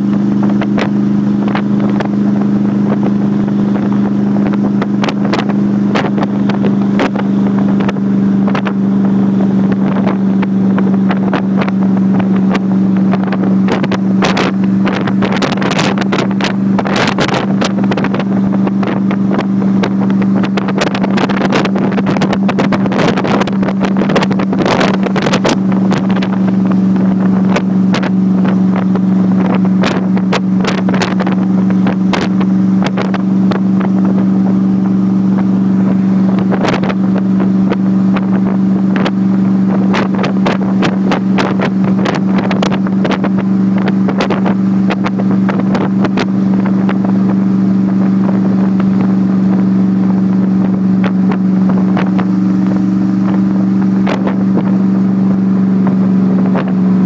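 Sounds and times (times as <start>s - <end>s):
car engine cruising: 0.0s - 57.0s
wind buffeting microphone: 0.0s - 57.0s.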